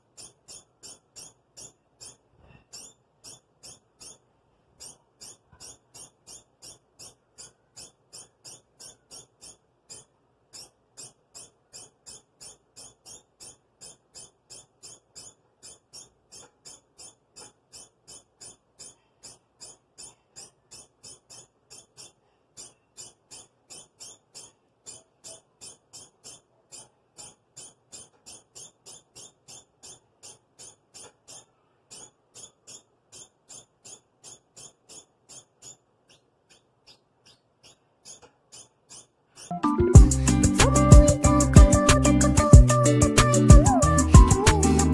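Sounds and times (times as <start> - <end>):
degu squeaking: 0.0 - 44.9.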